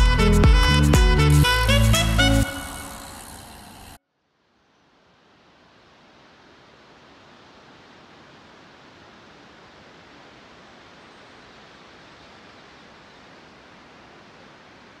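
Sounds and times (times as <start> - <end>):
faint outdoor rushing noise: 1.4 - 15.0.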